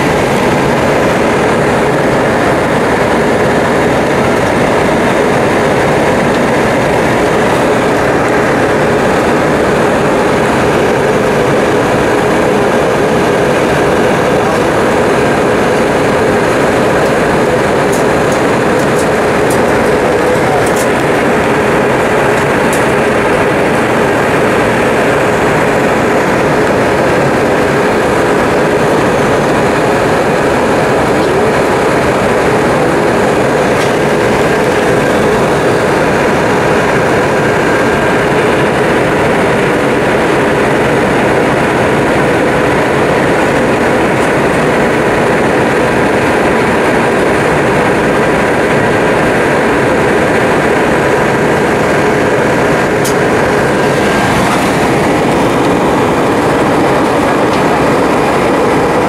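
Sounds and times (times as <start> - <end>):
airliner cabin engine noise: 0.0 - 59.0.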